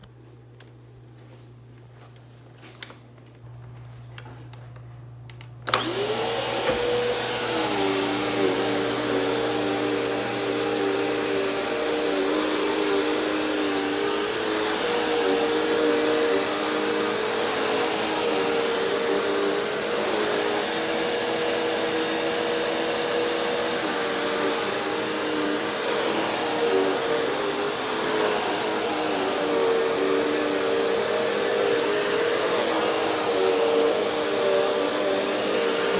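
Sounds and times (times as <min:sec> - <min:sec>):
vacuum cleaner running: 0:03.6 - 0:35.9.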